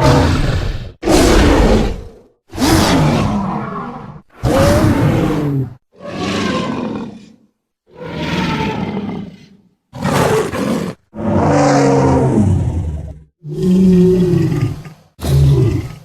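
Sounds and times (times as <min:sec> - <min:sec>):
monster roars: 0:00.0 - 0:16.0.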